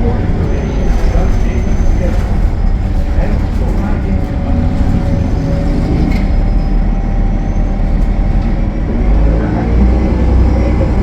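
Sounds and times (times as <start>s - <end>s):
bus diesel engine rumbling: 0.0s - 11.0s
road noise: 0.0s - 11.0s.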